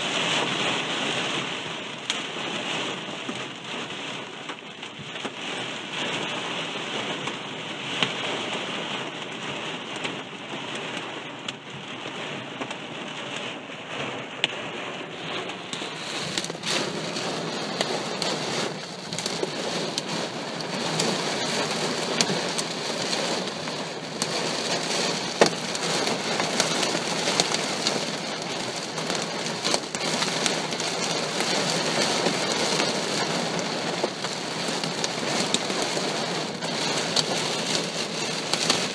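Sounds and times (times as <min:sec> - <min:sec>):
heavy rain pelting down: 0:00.0 - 0:38.9.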